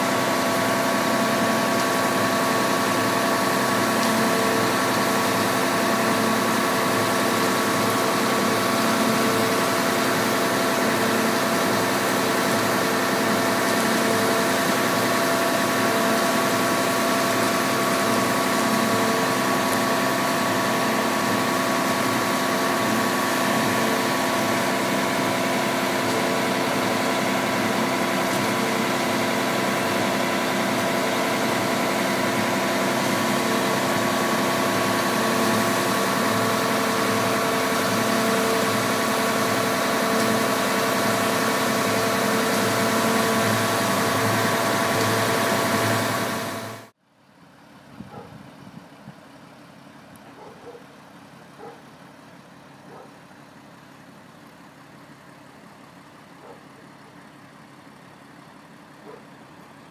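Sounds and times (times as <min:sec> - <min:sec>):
heavy diesel engines running: 0:00.0 - 0:47.0, 0:49.3 - 0:59.9.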